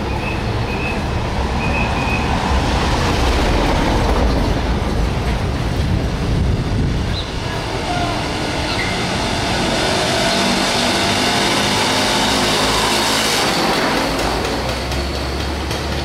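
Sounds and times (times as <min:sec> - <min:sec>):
street traffic noise: 0:00.0 - 0:16.0.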